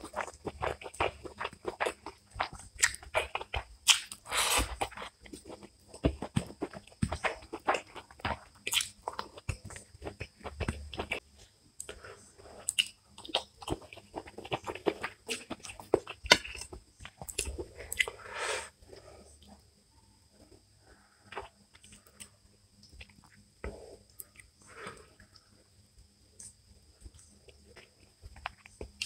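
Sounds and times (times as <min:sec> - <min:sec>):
chewing food: 0:00.0 - 0:18.2, 0:20.4 - 0:25.5, 0:26.4 - 0:29.0.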